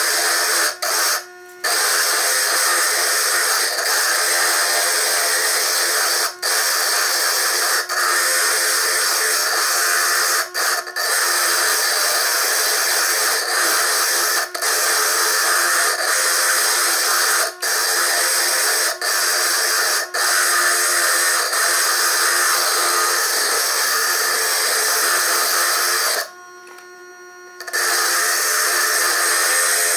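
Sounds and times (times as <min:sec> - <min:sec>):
drill grinding stone: 0:00.0 - 0:26.9, 0:27.6 - 0:29.9.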